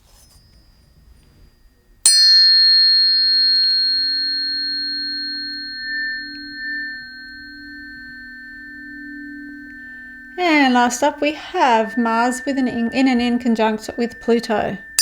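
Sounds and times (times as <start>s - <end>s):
tuning fork ringing tone: 0.0s - 15.0s
tuning fork struck: 0.2s - 15.0s.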